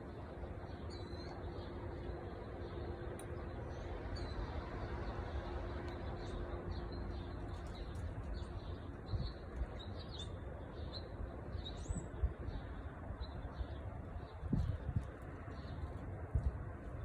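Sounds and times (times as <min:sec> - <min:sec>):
steady low rumble: 0:00.0 - 0:17.0
small birds chirping: 0:00.2 - 0:17.0.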